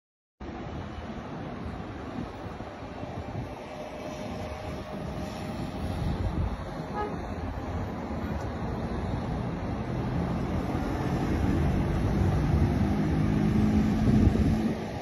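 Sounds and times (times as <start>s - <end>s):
cars driving past: 0.6s - 15.0s
vehicle engine: 2.7s - 15.0s.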